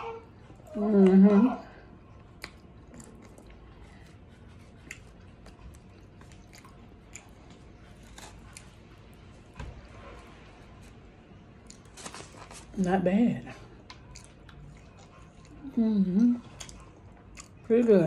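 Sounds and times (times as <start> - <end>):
person chewing food: 1.9 - 12.7, 13.6 - 17.7.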